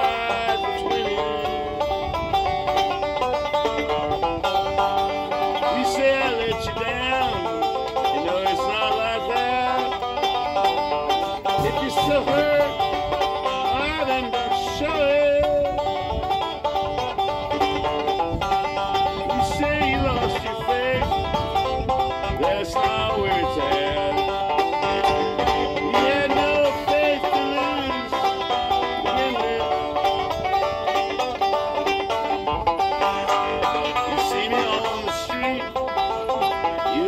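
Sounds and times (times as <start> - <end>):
banjo playing: 0.0 - 37.0.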